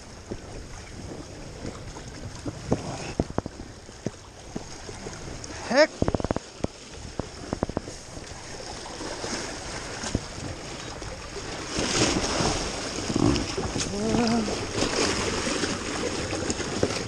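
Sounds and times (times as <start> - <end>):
waves splashing over rocks: 0.0 - 17.0.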